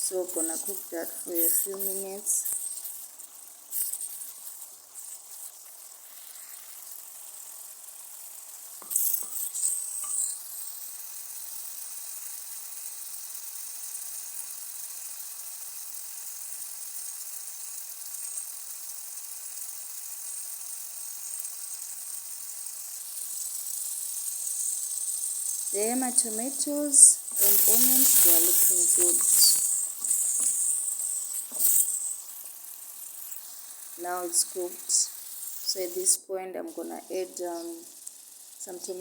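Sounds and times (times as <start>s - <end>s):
sauce sizzling in a pot: 0.0s - 39.0s.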